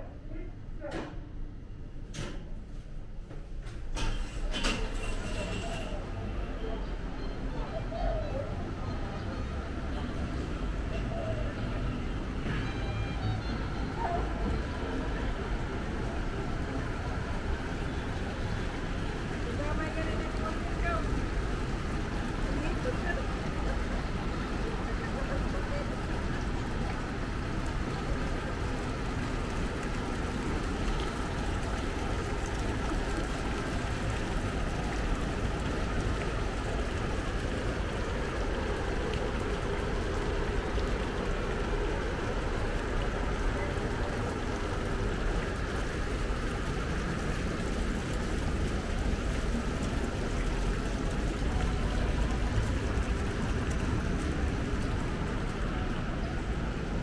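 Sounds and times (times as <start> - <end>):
traffic rumble: 1.4 - 57.0.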